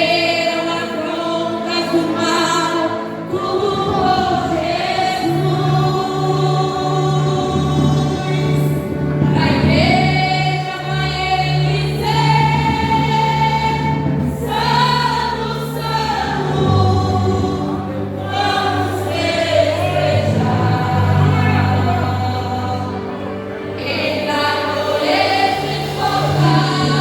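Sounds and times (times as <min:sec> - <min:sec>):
low accompaniment: 0:00.0 - 0:27.0
women's choir singing a hymn: 0:00.0 - 0:27.0.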